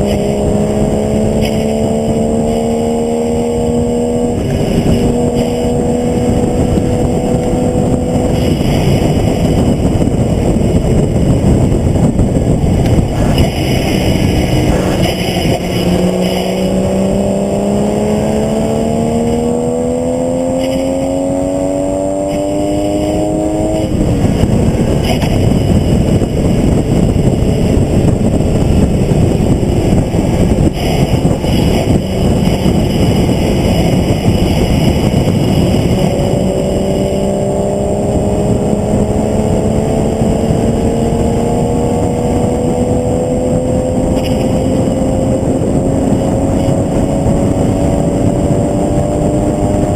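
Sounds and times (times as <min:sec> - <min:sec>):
car engine accelerating: 0:00.0 - 0:49.9
wind and road rush: 0:00.0 - 0:49.9.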